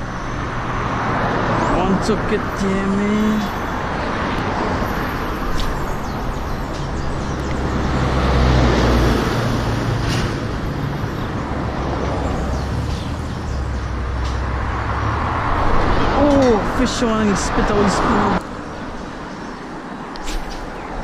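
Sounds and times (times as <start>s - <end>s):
vehicle passing close by: 0.0s - 19.1s
steady road traffic: 0.0s - 21.0s.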